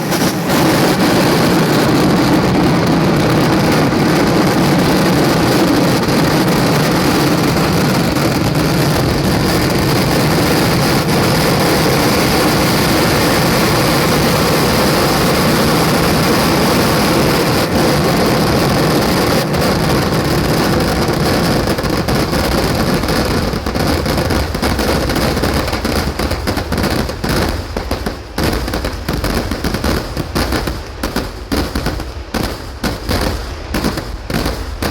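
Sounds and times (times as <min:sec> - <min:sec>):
fireworks explosions: 0:00.0 - 0:34.9.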